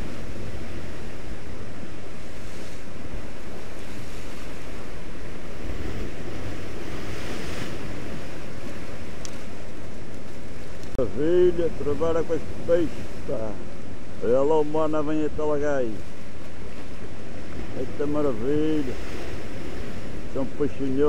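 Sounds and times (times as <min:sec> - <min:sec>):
ocean surf breaking on rocks: 0:00.0 - 0:21.0
wind rumbling on microphone: 0:00.0 - 0:21.0.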